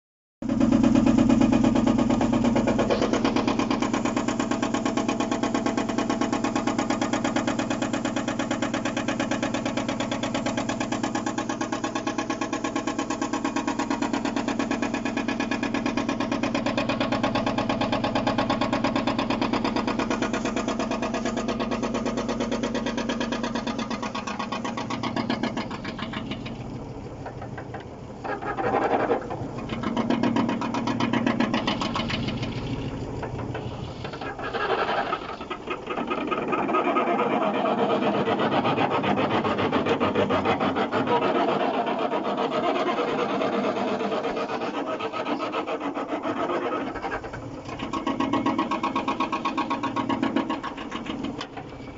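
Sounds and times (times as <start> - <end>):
washing machine spinning: 0.5 - 51.9.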